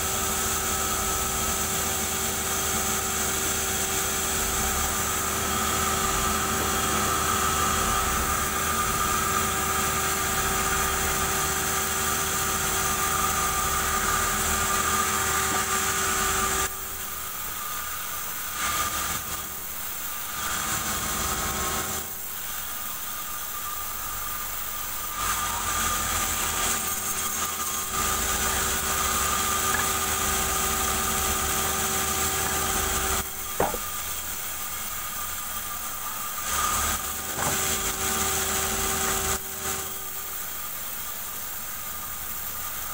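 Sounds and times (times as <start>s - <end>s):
sawmill hum and blade whine: 0.0s - 42.9s.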